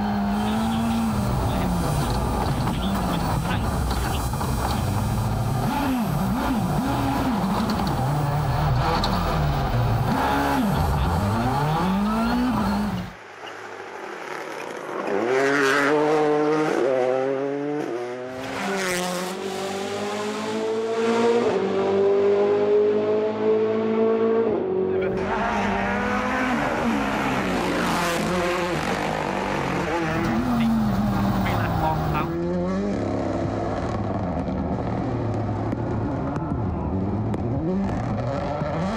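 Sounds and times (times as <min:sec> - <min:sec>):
rally car engine revving: 0:00.0 - 0:13.2, 0:15.0 - 0:38.9.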